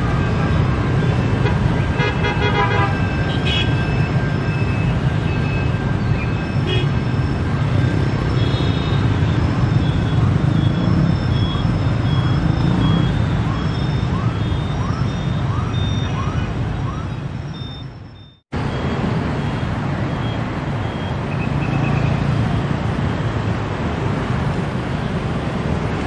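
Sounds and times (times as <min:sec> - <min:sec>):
motorbike and car traffic: 0:00.0 - 0:26.0.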